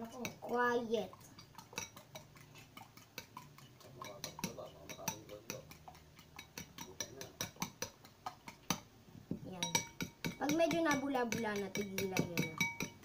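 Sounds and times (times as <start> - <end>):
fork clicking against glass bowl: 1.4 - 8.8, 9.6 - 13.0.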